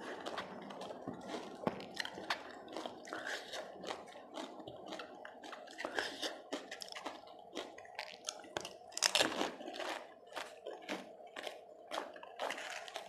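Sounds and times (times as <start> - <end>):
chewing and crunching crisp food: 0.0 - 13.0.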